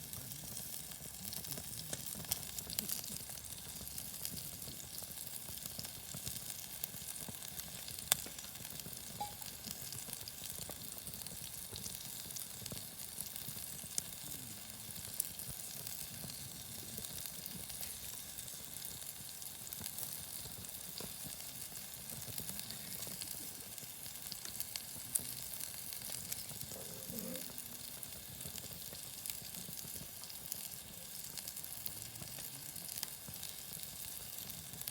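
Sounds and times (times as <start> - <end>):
meat sizzling on a griddle: 0.0 - 34.9.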